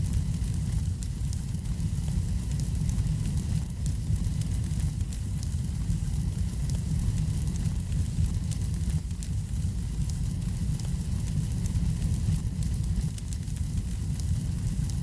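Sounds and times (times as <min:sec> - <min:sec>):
fire crackles: 0:00.0 - 0:15.0
fire rumbling in fireplace: 0:00.0 - 0:15.0.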